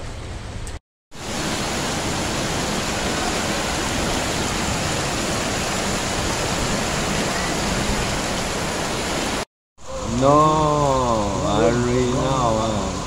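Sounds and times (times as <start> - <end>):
floodwater rushing down street: 1.1 - 13.0.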